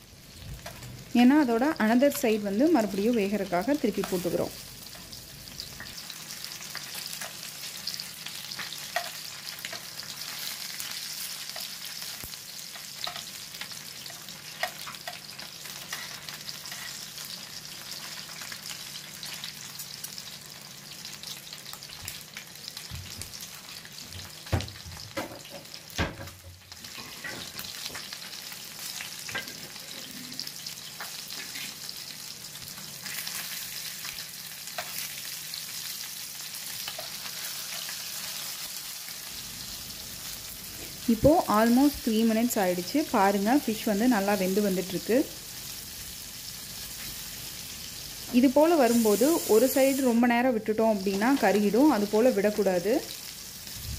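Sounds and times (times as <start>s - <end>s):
fish sizzling in oil: 0.0s - 53.9s.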